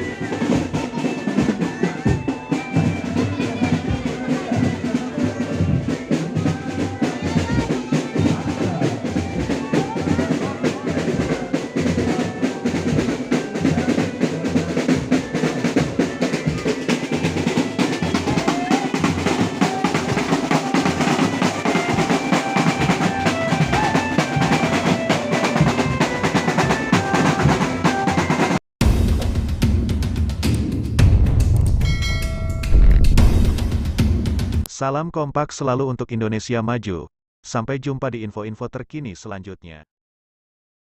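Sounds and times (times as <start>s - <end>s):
drum-led dance music: 0.0s - 34.7s.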